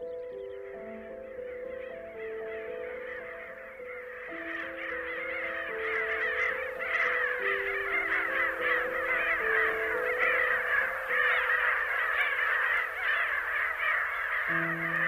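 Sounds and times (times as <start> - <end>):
birds chirping in chorus: 0.0 - 15.0.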